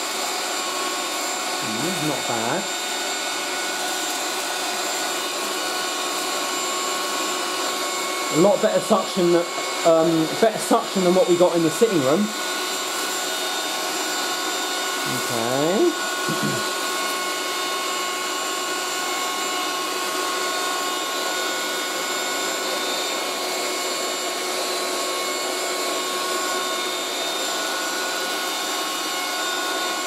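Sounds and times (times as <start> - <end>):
handheld vacuum cleaner running: 0.0 - 30.0.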